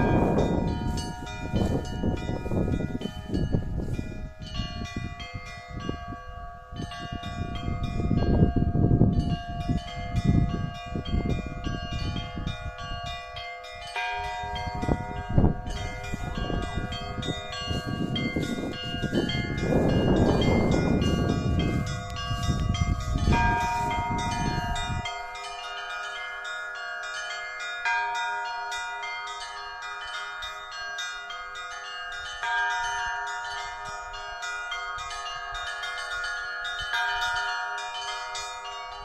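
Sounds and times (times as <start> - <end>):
church bells ringing a peal: 0.0 - 39.0.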